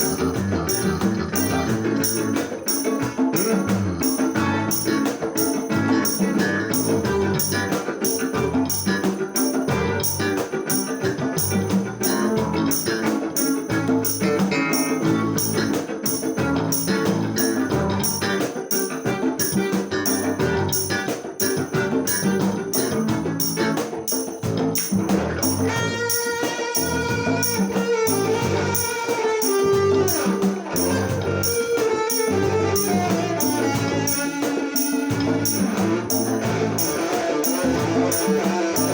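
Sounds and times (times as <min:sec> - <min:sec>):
percussive beat: 0:00.0 - 0:38.9
strummed and plucked strings: 0:00.0 - 0:38.9.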